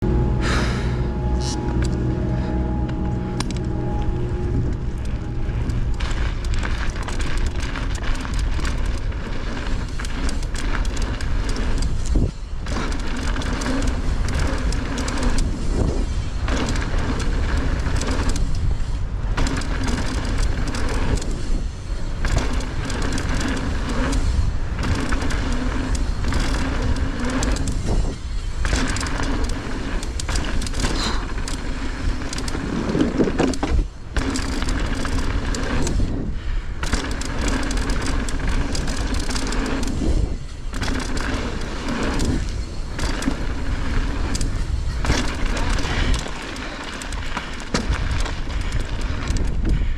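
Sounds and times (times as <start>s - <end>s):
low hum: 0.0s - 49.9s
tyre and wind noise: 1.2s - 49.9s
bike knocking and rattling: 3.3s - 49.9s.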